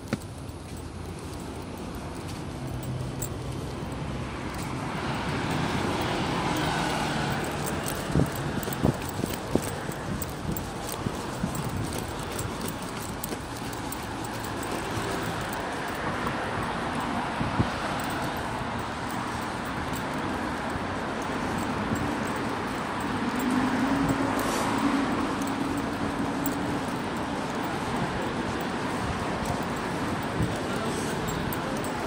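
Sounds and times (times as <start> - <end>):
street traffic noise: 0.0 - 32.0
vehicle engine hum: 0.0 - 32.0.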